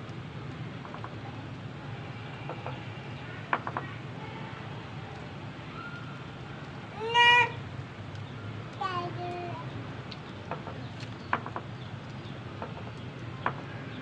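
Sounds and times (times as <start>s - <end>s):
wood fire rumbling and crackling: 0.0s - 14.0s.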